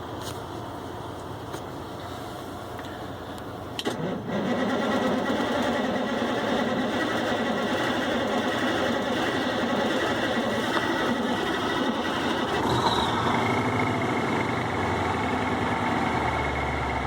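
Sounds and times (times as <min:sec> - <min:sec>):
diesel engine starting and running: 0:00.0 - 0:17.0.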